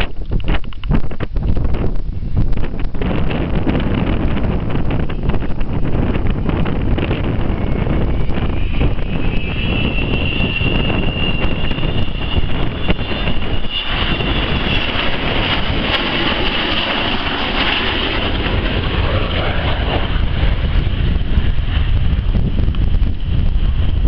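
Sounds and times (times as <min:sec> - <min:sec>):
jet engines rumbling and whining: 0:00.0 - 0:24.0
wind buffeting microphone: 0:00.0 - 0:24.0.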